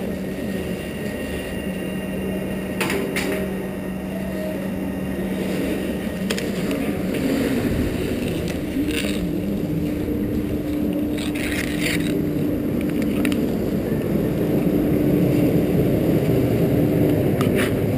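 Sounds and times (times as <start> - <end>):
faint hum: 0.0 - 17.9.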